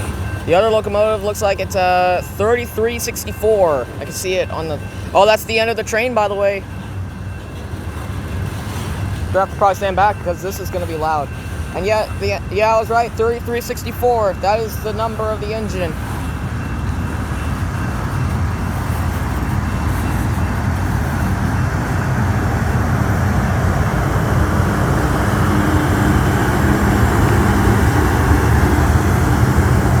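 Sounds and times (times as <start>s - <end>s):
diesel locomotive engine rumbling: 0.0s - 30.0s
train wheels on rails: 0.0s - 30.0s.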